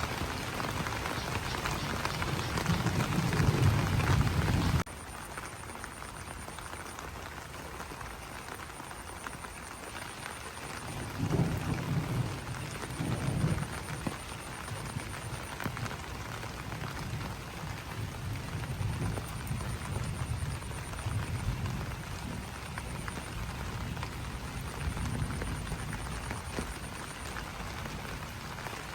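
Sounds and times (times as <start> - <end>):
rain pattering on leaves: 0.0 - 28.9.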